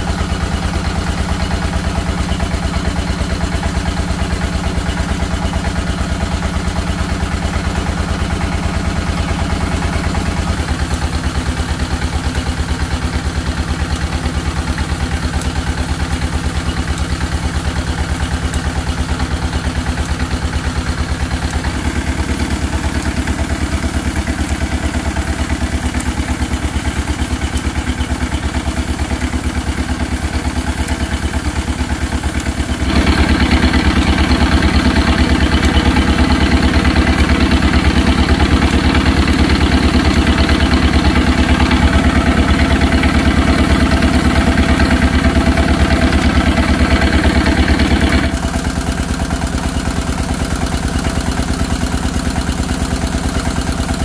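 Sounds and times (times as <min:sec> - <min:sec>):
small engine running steadily: 0:00.0 - 0:54.0.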